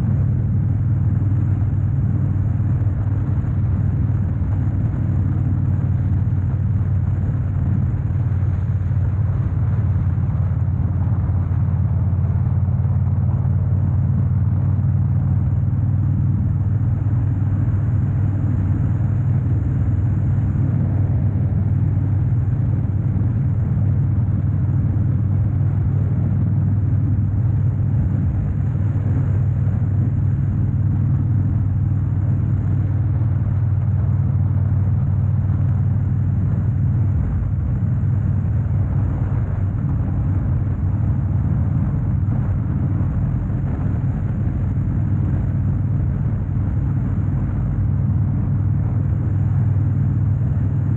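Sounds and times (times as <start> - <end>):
motorcycle engine cruising rumble: 0.0 - 50.9
road noise: 0.0 - 50.9.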